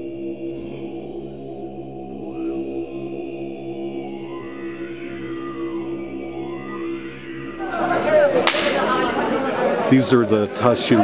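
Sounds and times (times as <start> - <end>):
men chanting in deep drone: 0.0 - 11.0.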